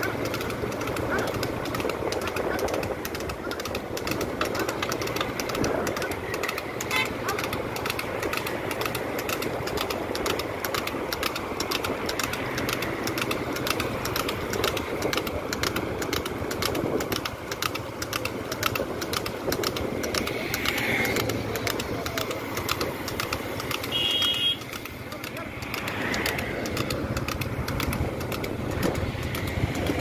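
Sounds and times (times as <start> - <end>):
cart rattling: 0.0 - 30.0
hoofbeats on asphalt: 0.0 - 30.0
wind and road noise: 0.0 - 30.0.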